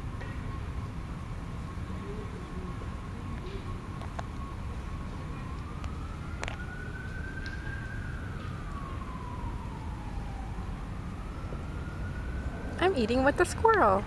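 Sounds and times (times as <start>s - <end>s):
distant siren wailing: 0.0s - 14.0s
steady low rumble: 0.0s - 14.0s.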